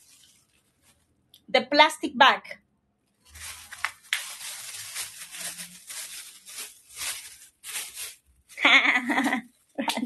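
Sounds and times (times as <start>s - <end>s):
plastic bag crinkling: 0.0s - 1.3s, 3.1s - 9.9s.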